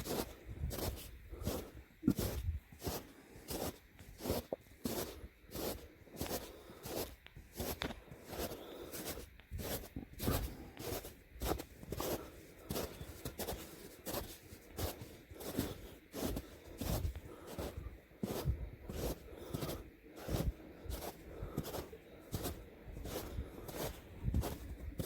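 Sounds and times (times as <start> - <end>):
footsteps on a trail: 0.0 - 25.0.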